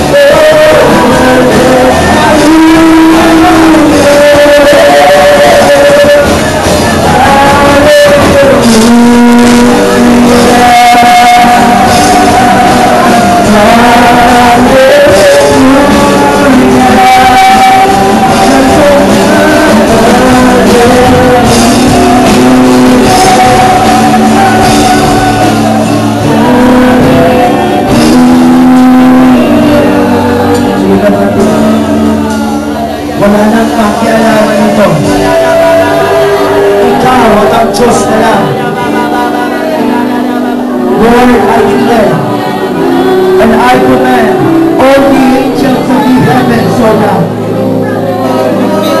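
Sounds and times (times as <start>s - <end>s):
band playing worship music: 0.0s - 49.0s
voices singing and shouting: 0.0s - 49.0s.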